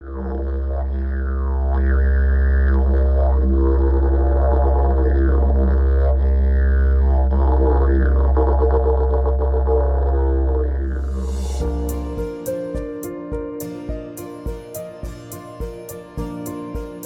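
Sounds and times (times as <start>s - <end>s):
didgeridoo drone: 0.0s - 17.0s.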